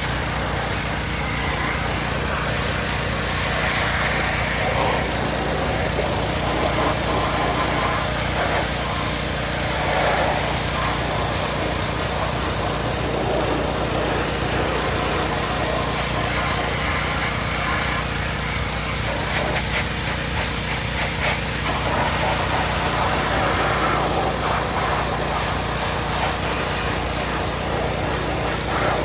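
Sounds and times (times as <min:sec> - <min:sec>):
high-pressure water spray hiss: 0:00.0 - 0:29.0
pressure washer engine droning: 0:00.0 - 0:29.0.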